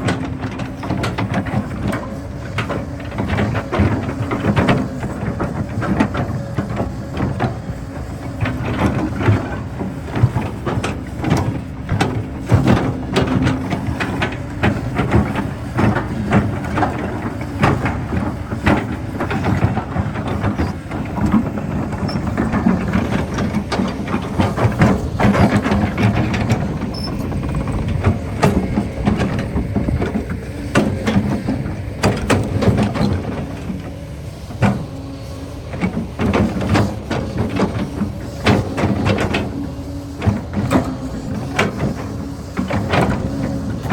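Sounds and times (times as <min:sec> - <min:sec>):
digging knocks and clatter: 0:00.0 - 0:43.9
excavator diesel engine under load: 0:00.0 - 0:43.9.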